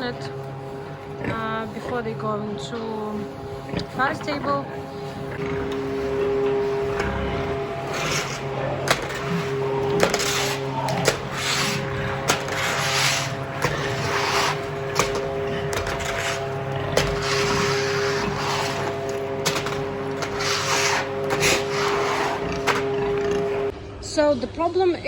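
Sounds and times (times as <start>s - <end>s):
scuffing noises: 0.0s - 23.7s
steady machine hum: 0.0s - 24.3s.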